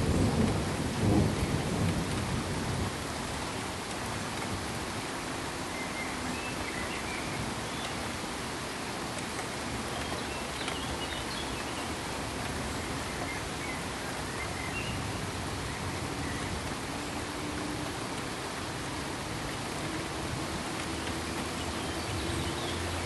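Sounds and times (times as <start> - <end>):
pink noise hiss: 0.0 - 23.0.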